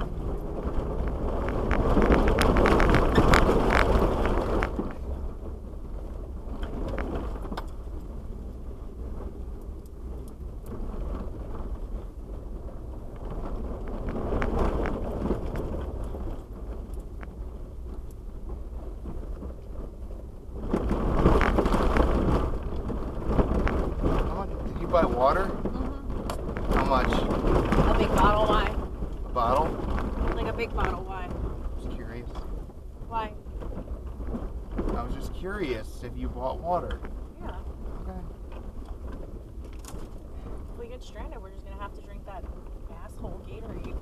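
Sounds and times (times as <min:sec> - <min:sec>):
low vehicle rumble: 0:00.0 - 0:44.0.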